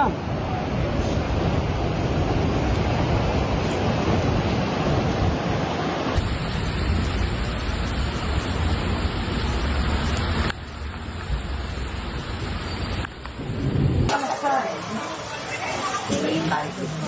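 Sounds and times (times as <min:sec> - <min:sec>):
flood water rushing: 0:00.0 - 0:17.0.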